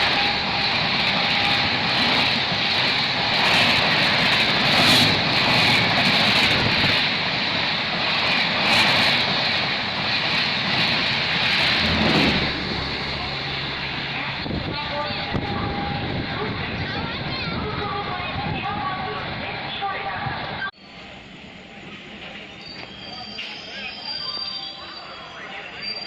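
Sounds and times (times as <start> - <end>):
train passing at high speed: 0.0 - 25.9.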